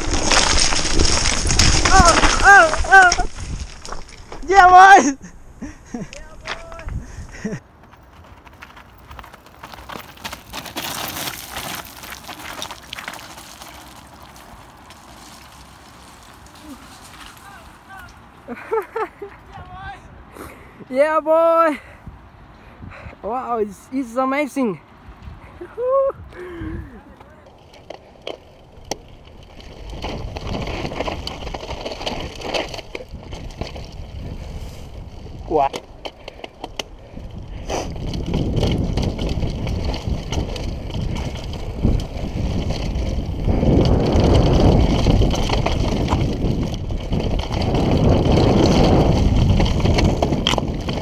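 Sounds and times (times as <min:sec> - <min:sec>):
bike tyres crunching over gravel: 0:00.0 - 0:20.0, 0:25.5 - 0:51.0.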